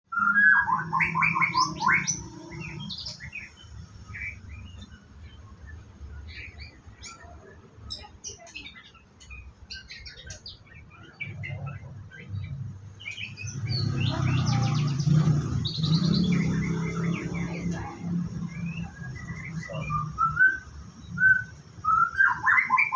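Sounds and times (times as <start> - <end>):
bird singing whistled notes: 0.1 - 22.9.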